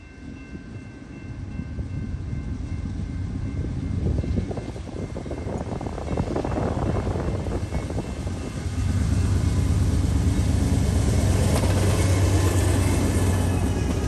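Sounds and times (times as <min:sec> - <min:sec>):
diesel locomotive engine drone: 0:00.0 - 0:14.0.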